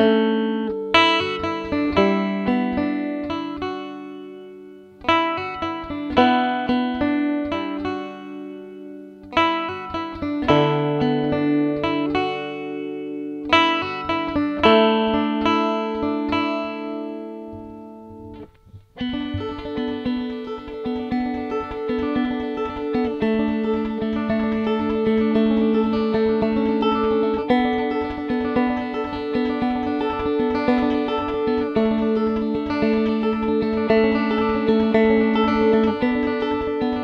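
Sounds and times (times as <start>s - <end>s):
finger-picked banjo: 0.0s - 37.0s.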